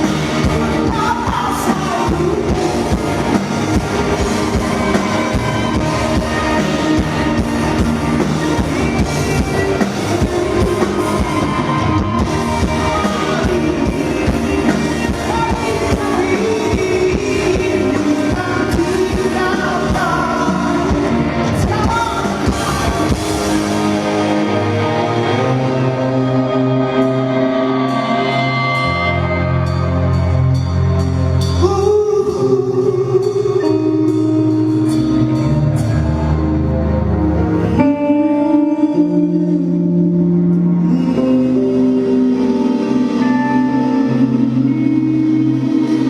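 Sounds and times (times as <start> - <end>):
person singing: 0.0 - 30.6, 31.3 - 36.6, 37.6 - 46.0
drums: 0.0 - 46.0
electric guitar: 0.0 - 46.0
rock band playing live: 0.0 - 46.0.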